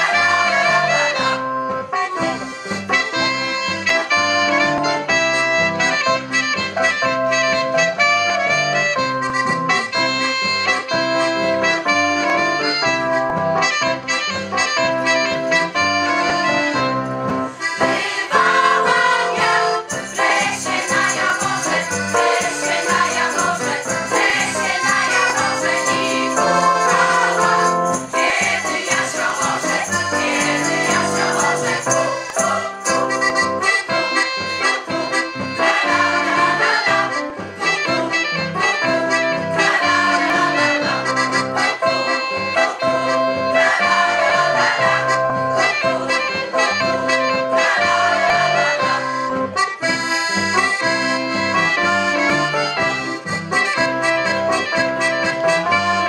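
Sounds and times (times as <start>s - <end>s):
background music: 0.0s - 56.0s.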